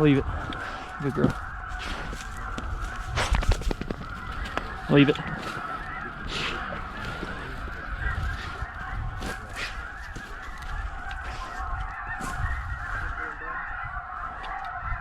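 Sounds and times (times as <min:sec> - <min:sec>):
flock of geese honking: 0:00.0 - 0:15.0.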